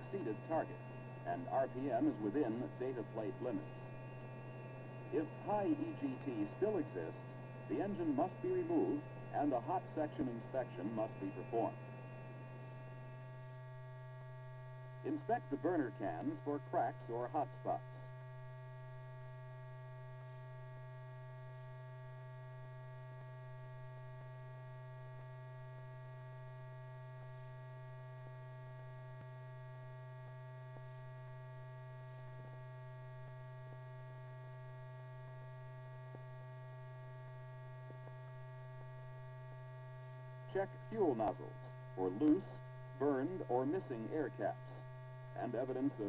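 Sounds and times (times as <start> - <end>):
mains hum: 0.0 - 46.0.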